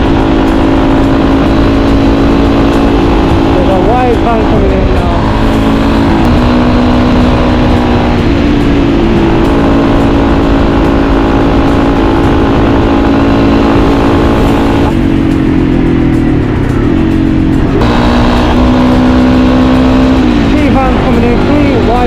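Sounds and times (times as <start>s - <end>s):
motorcycle engine running: 0.0s - 22.0s
road and wind rush: 0.0s - 22.0s.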